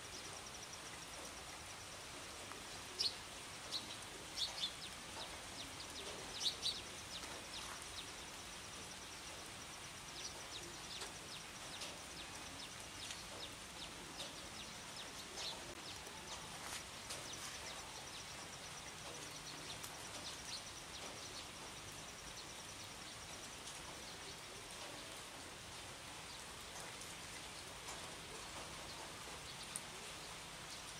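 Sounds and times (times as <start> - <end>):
rain on shrubs and dirt path: 0.0 - 30.9.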